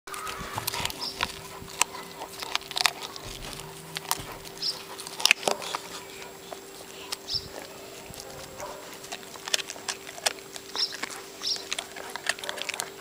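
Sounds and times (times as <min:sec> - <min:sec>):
puppy gnawing crunching bone: 0:00.1 - 0:13.0.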